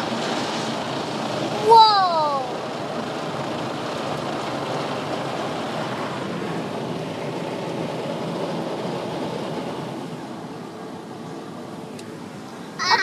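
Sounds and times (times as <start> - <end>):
car wash brushes and water spray: 0.0 - 13.0.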